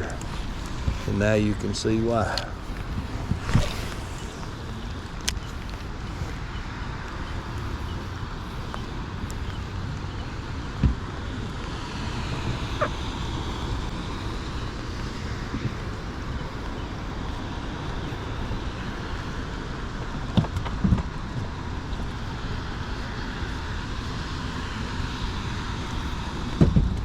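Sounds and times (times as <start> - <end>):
water around a boat: 0.0 - 27.0
wind rumble on microphone: 0.0 - 27.0.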